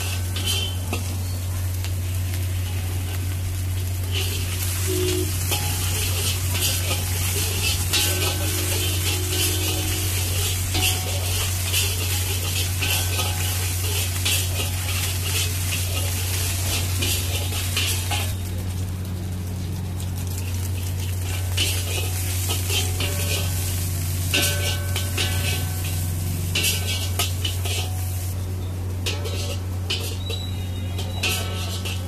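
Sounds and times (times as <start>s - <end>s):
metal spatula scraping: 0.0s - 1.5s, 2.5s - 18.4s, 20.4s - 28.3s, 29.0s - 32.0s
food sizzling on a griddle: 0.0s - 32.0s.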